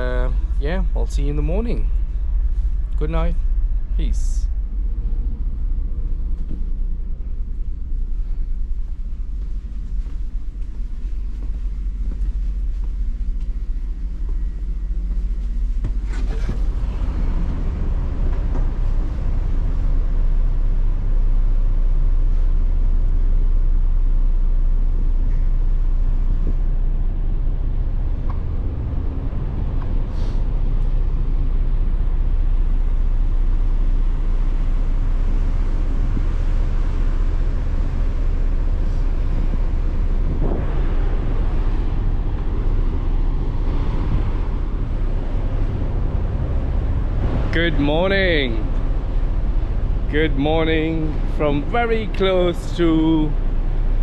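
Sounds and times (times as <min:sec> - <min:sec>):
constant rushing noise: 0:00.0 - 0:54.0
ship engines droning: 0:00.0 - 0:54.0.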